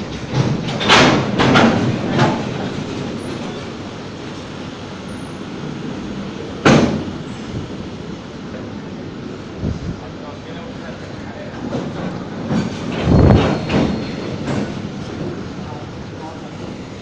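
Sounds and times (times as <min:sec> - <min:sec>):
railway wagons rumbling: 0:00.0 - 0:17.0.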